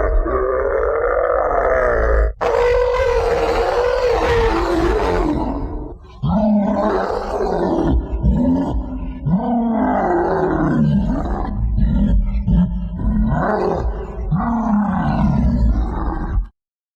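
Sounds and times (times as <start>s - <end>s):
monster roaring: 0.0s - 16.5s.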